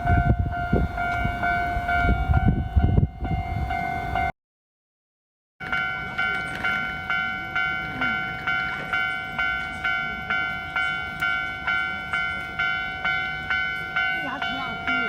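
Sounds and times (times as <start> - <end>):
level crossing warning bell ringing: 0.0 - 4.3, 5.6 - 15.0.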